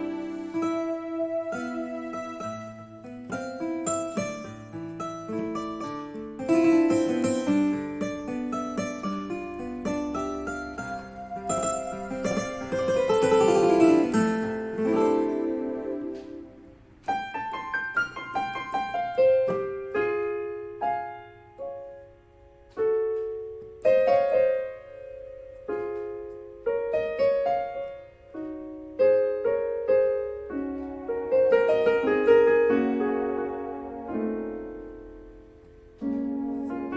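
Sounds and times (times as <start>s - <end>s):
keyboard playing slow melody: 0.0s - 36.9s.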